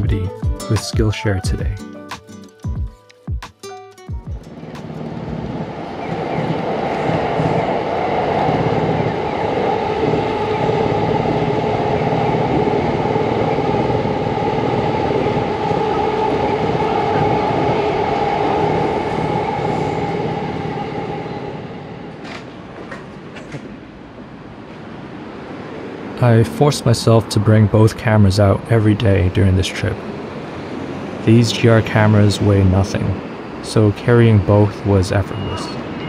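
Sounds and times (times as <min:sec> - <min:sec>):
train rumbling with humming tone: 0:04.3 - 0:36.0.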